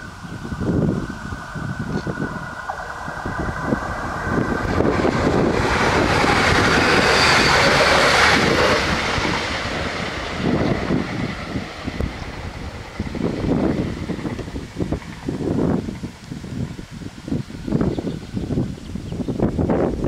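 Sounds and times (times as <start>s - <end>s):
passenger train passing: 0.0s - 20.0s
wind on microphone: 0.0s - 20.0s.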